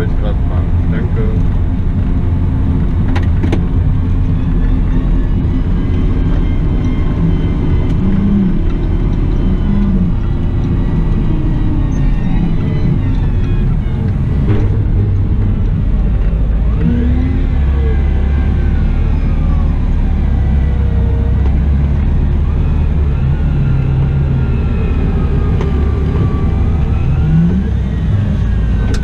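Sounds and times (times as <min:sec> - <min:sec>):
wheel loader engine drone: 0:00.0 - 0:29.0.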